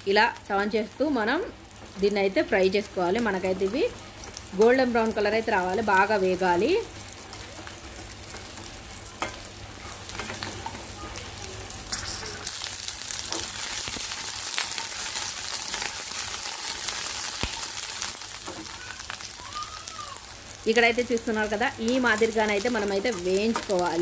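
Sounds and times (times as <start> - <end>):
okra sizzling in oil: 0.0 - 24.0.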